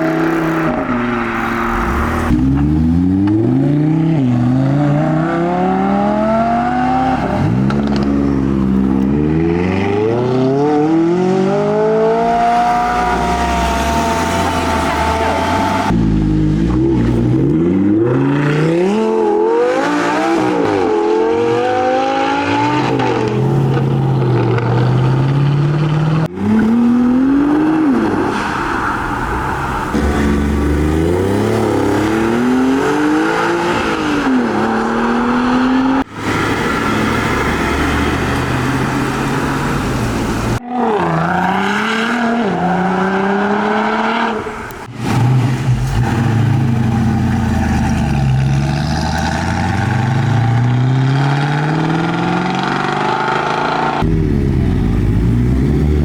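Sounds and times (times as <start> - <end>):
car engines accelerating: 0.0 - 56.0.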